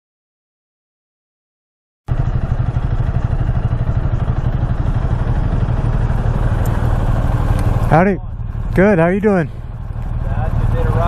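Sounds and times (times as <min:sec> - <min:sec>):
motorcycle engine idling: 0:02.1 - 0:11.0.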